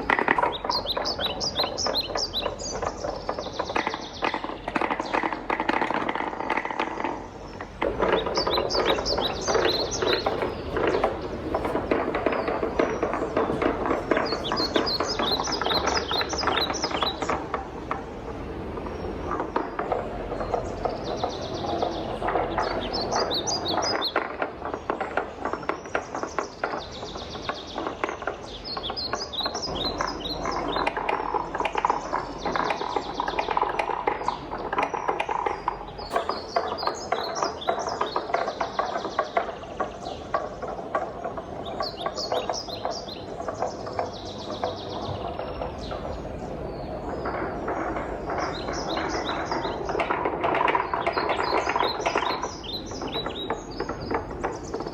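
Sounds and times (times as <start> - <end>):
wooden balls clattering down track: 0.0 - 54.9.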